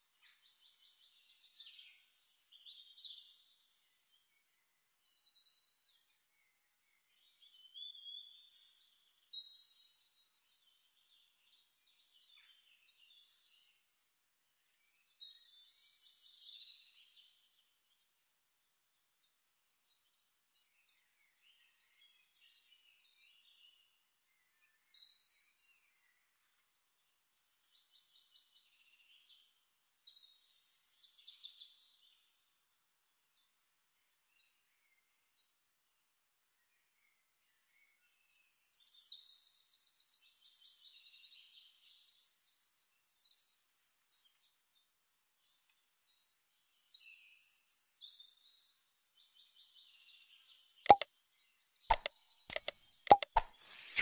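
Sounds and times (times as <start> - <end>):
faint birdsong chirps and trills: 0.0 - 54.0.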